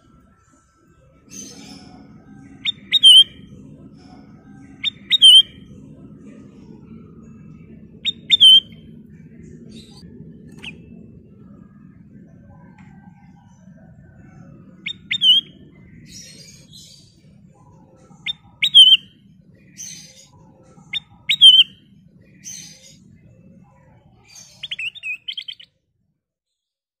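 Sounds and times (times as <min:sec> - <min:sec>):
bulbul singing: 0:00.0 - 0:12.5, 0:13.2 - 0:23.4, 0:24.2 - 0:25.7.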